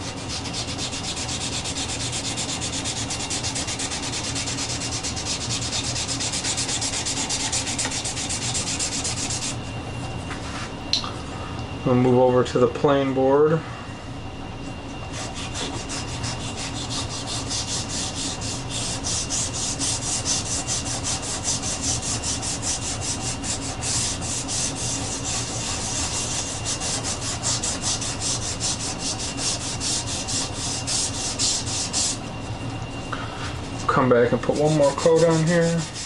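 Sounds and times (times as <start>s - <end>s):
rag rubbing on wood: 0.0s - 9.6s, 15.1s - 32.4s, 33.6s - 36.0s.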